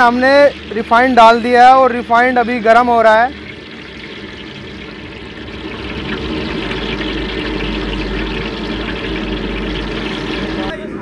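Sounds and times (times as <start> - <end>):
gas burner hissing: 0.0 - 10.8.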